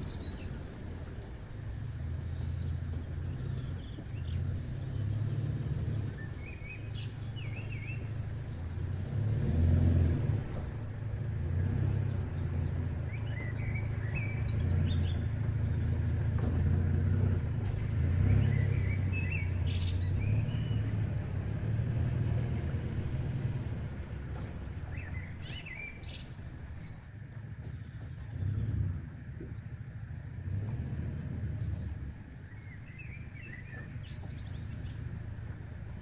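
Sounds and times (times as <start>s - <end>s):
small birds chirping: 0.0s - 16.5s, 17.1s - 36.0s
steady low rumble: 0.0s - 36.0s.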